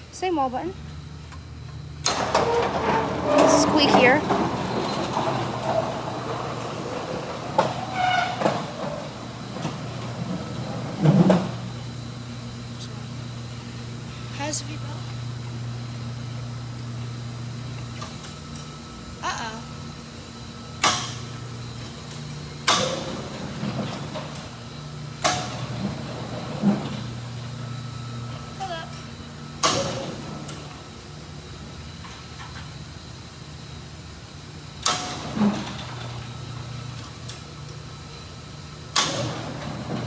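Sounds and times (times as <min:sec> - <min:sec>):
garage door opener rumbling: 0:00.8 - 0:40.0.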